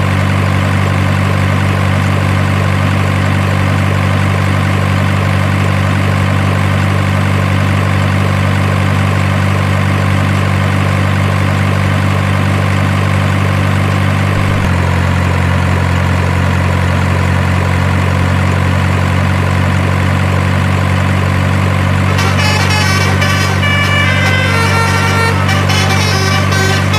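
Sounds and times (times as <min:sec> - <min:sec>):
simulated diesel engine idling: 0:00.0 - 0:26.9.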